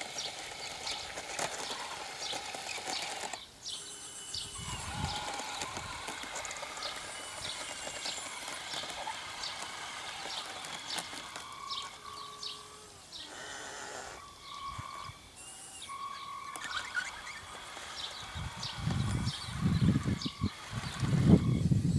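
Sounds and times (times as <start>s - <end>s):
electric motor whines: 0.0s - 21.9s
small birds chirping: 0.0s - 21.9s.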